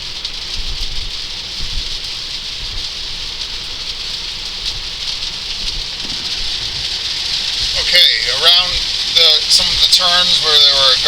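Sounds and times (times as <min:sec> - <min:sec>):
heavy rain on car: 0:00.0 - 0:11.0
tyres rumbling on wet road: 0:00.0 - 0:11.0.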